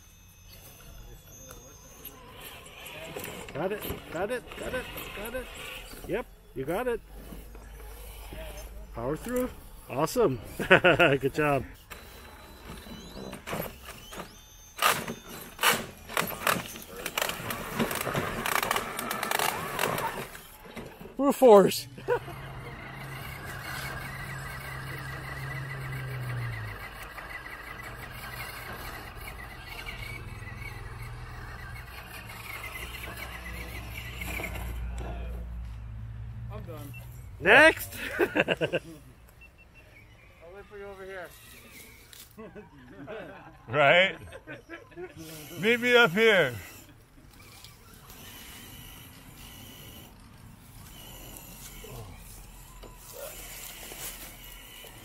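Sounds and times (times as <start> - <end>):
rc car motor and gears whining: 0.0 - 55.0.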